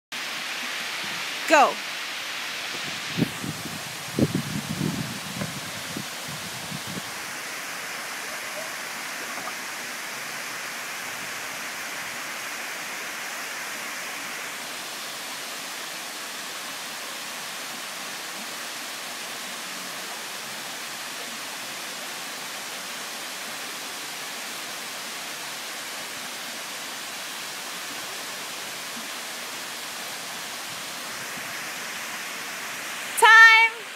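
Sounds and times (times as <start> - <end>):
waterfall rushing over rocks: 0.2 - 33.9.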